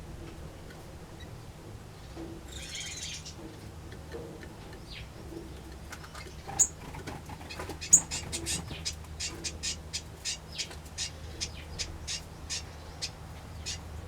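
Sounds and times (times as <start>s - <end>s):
birds chirping and calling: 2.5s - 14.0s.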